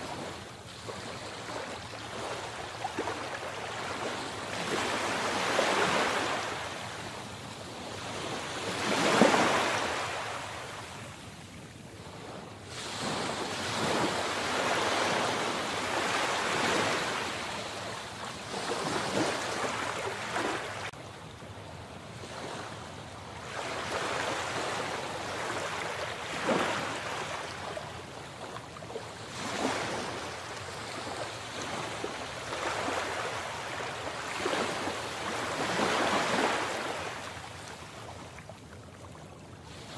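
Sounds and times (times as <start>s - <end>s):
sea waves breaking: 0.0s - 6.8s, 7.7s - 11.0s, 12.1s - 21.0s, 23.5s - 38.6s.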